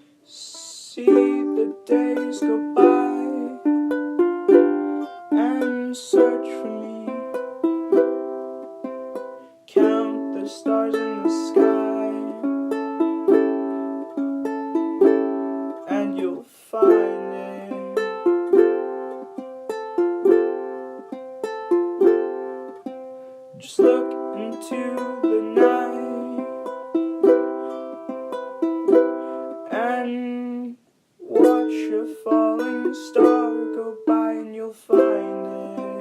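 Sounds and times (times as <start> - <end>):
ukulele strumming: 0.0 - 36.0.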